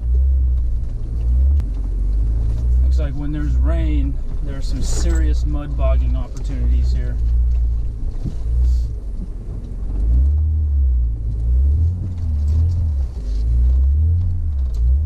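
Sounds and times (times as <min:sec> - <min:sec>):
pickup truck engine and tyres rumbling: 0:00.0 - 0:15.0.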